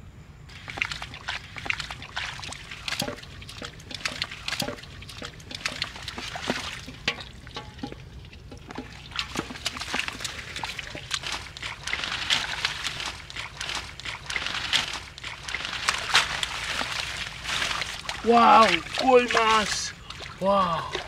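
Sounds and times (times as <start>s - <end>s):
hands splashing in muddy water: 0.5s - 21.0s
water dripping: 0.5s - 21.0s.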